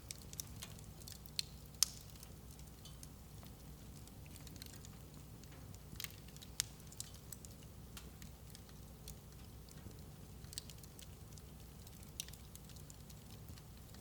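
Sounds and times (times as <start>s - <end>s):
fire crackles and pops: 0.0s - 14.0s
fire rumbling: 0.0s - 14.0s.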